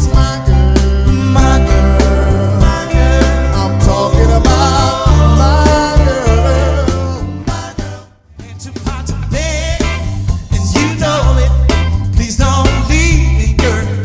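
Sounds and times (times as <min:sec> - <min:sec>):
melodic lead line: 0:00.0 - 0:08.0, 0:09.1 - 0:14.0
band music with strong bass: 0:00.0 - 0:14.0.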